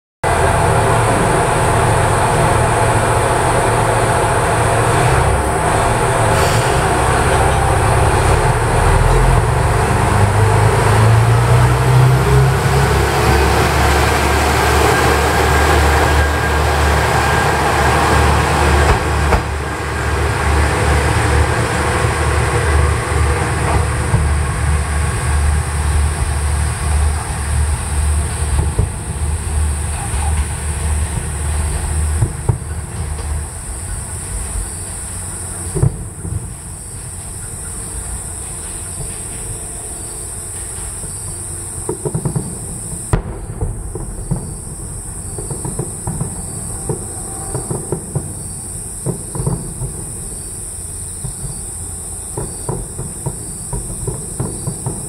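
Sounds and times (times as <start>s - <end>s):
diesel engines revving: 0.2s - 55.0s
train wheels on rails: 0.2s - 55.0s.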